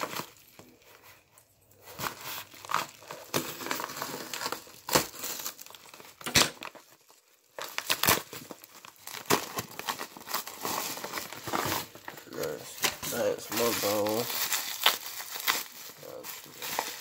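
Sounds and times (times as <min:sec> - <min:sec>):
bubble mailer crinkling and tearing: 0:00.0 - 0:17.0.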